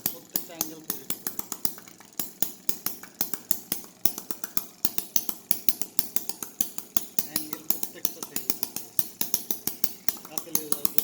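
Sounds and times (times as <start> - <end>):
small engine ticking: 0.0 - 11.0.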